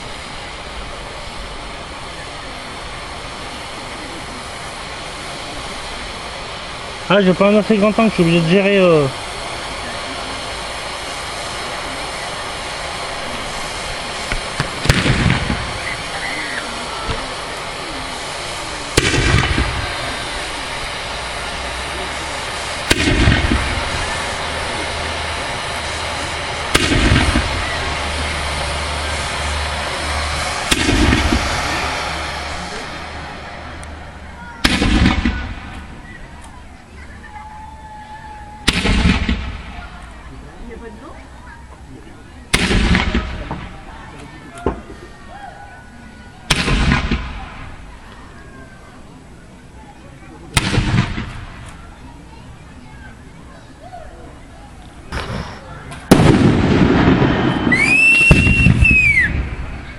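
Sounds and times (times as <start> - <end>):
faint distant voices: 0.0 - 59.9
fireworks bangs with rumbling echo: 0.0 - 59.9
steady background noise: 0.0 - 59.9.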